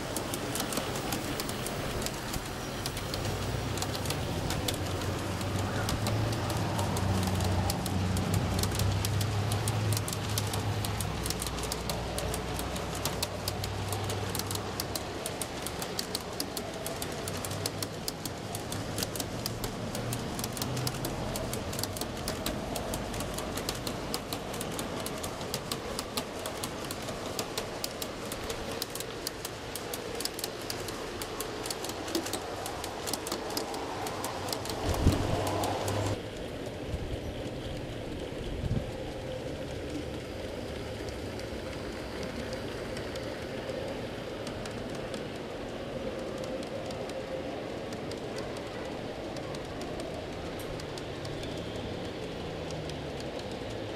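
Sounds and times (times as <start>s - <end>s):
model train wheels clicking and rattling: 0.0s - 53.9s.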